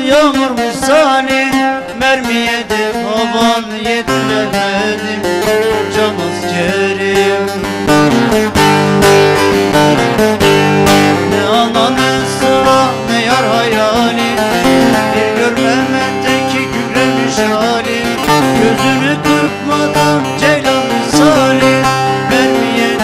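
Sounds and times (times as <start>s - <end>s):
long-necked lute plucked and strummed: 0.0s - 23.0s.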